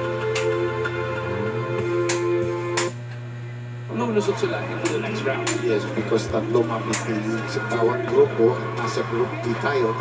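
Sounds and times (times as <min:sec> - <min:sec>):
music with held tones: 0:00.0 - 0:10.0.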